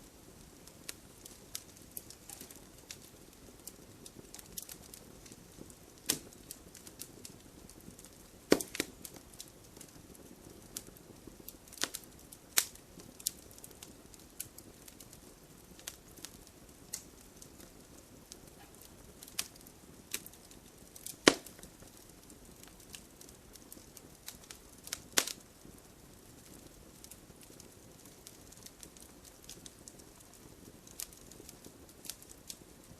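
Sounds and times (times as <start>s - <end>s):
low steady fire hiss: 0.0s - 32.9s
wood fire crackling: 0.0s - 32.9s
loud fire pops: 0.1s - 32.9s.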